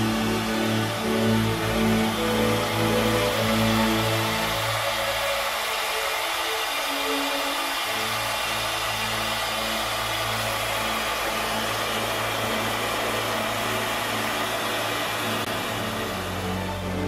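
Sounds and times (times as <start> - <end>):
helicopter engine and rotors: 0.0 - 17.0.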